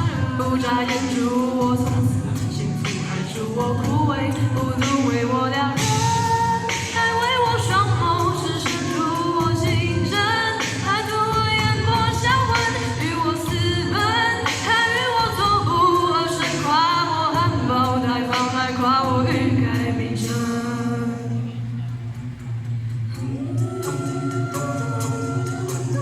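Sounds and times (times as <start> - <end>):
person singing pop song: 0.0 - 26.0.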